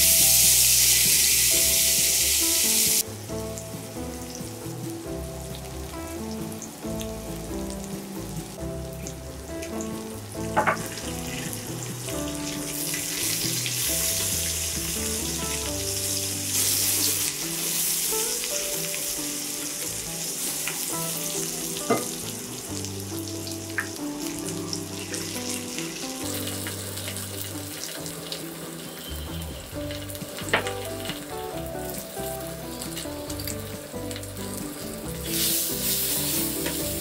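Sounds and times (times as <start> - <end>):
onions sizzling in hot oil: 0.0 - 37.0.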